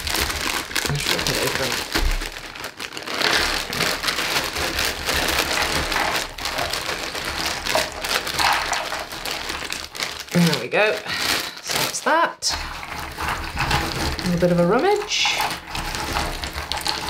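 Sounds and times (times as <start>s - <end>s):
plastic bag crinkling: 0.0s - 17.0s
puzzle pieces clattering: 0.0s - 17.0s.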